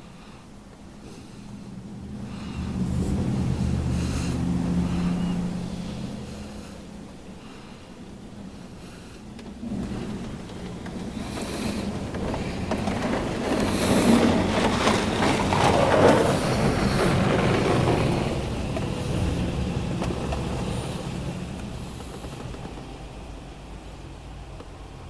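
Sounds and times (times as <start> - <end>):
steady low hum: 0.0 - 25.0
car wash spray rushing: 0.9 - 24.0.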